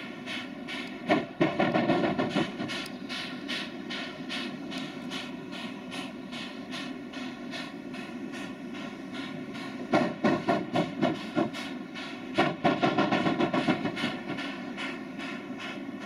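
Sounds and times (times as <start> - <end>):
hiss of steam: 0.0 - 16.0
steam locomotive exhaust beats: 0.0 - 16.0.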